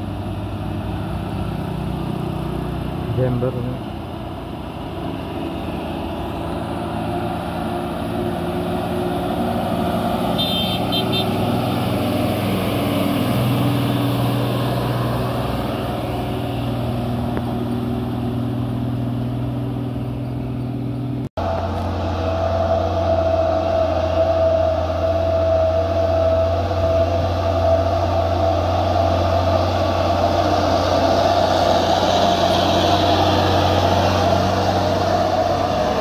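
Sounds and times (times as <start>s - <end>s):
heavy truck engine running: 0.0s - 36.0s.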